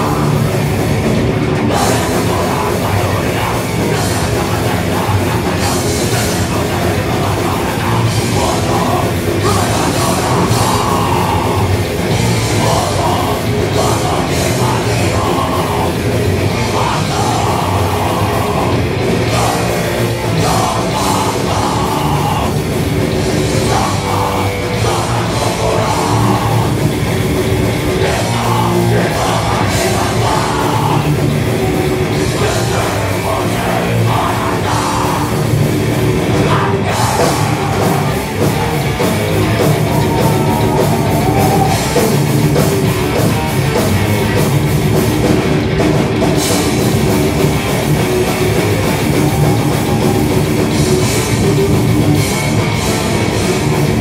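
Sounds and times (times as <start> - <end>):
metal band playing live: 0.0 - 54.0.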